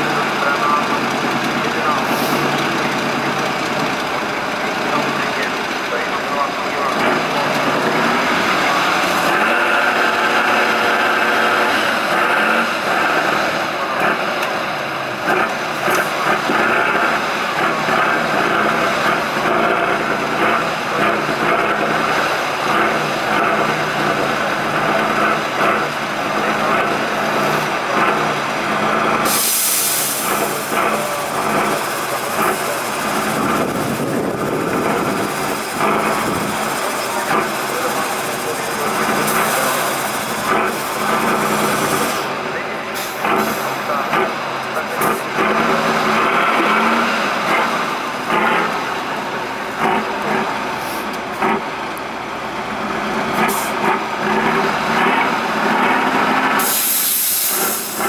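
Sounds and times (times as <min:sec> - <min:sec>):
truck diesel engine: 0:00.0 - 0:58.0.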